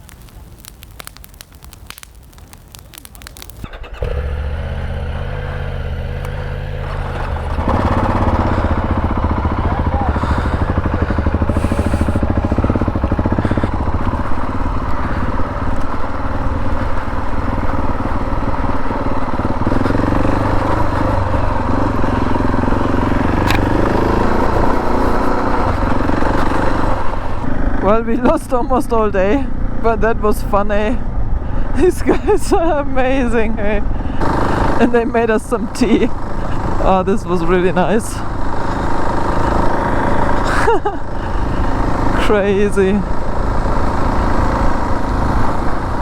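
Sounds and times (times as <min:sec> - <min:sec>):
motorcycle engine idling and revving: 0:03.5 - 0:46.0.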